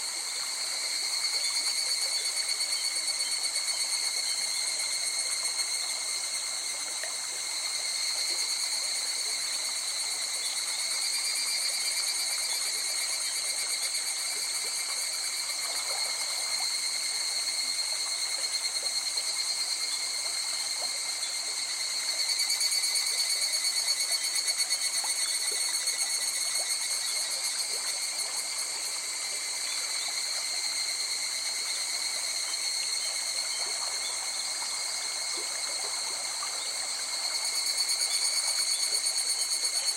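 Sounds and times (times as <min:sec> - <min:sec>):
flowing river water: 0:00.0 - 0:39.9
night insects chirping: 0:00.0 - 0:39.9.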